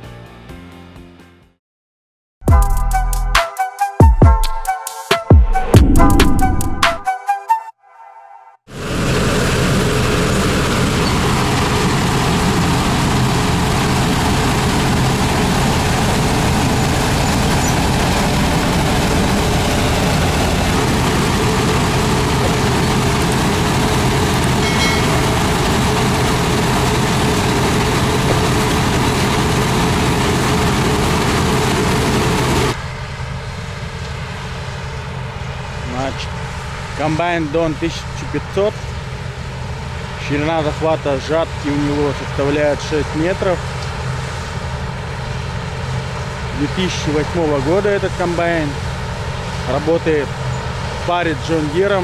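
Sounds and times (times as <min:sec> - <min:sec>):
combine harvester running: 0:08.7 - 0:52.0.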